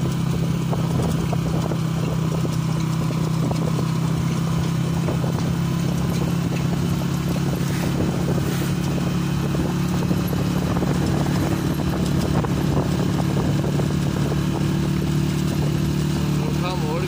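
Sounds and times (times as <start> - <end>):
road noise: 0.0 - 17.0
vehicle engine droning: 0.0 - 17.0.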